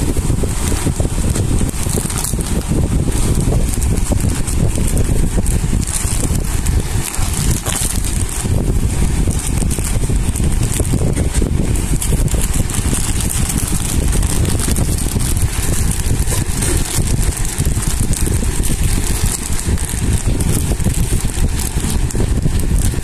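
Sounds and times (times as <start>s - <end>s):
loud low rumble: 0.0s - 23.0s
plastic bag crinkling and tearing: 0.0s - 23.0s.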